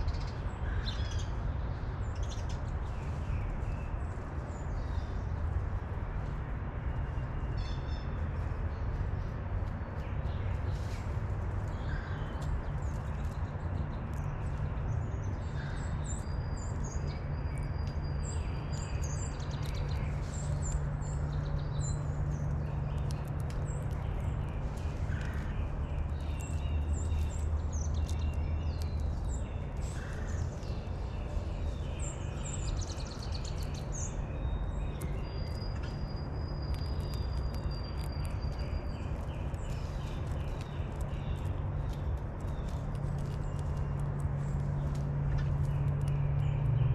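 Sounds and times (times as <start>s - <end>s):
low background rumble: 0.0s - 46.9s
small songbirds chirping: 0.0s - 46.9s.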